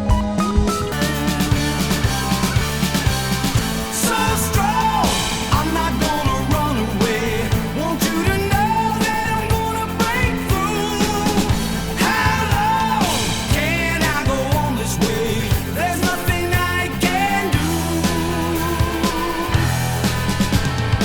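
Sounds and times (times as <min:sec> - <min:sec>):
song from vinyl record: 0:00.0 - 0:21.0.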